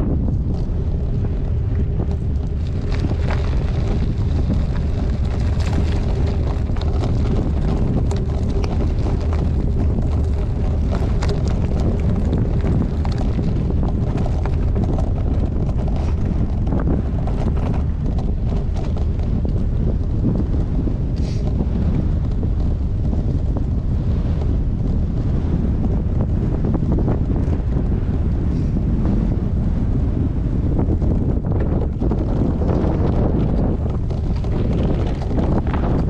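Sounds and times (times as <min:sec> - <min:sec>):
bike clicks and rattles: 0:00.0 - 0:28.8, 0:30.8 - 0:36.0
wind buffeting microphone: 0:00.0 - 0:36.0.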